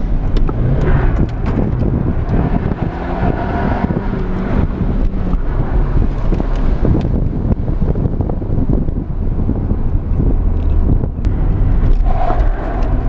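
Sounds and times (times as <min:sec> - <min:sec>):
car engine under throttle: 0:00.0 - 0:13.0
wind buffeting microphone: 0:00.0 - 0:13.0.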